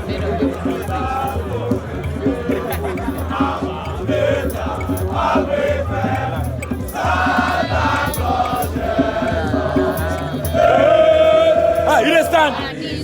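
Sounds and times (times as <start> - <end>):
men chanting in chorus: 0.0 - 13.0.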